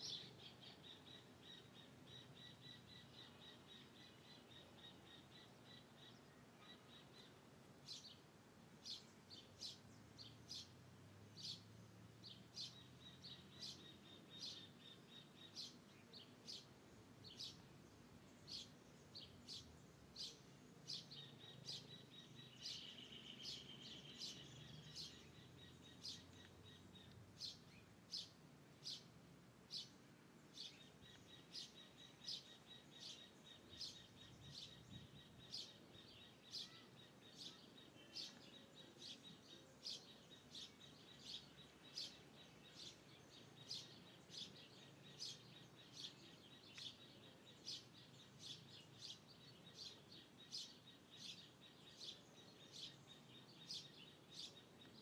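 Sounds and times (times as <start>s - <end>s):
bird chirping: 0.0s - 55.0s
outdoor background noise: 0.0s - 55.0s.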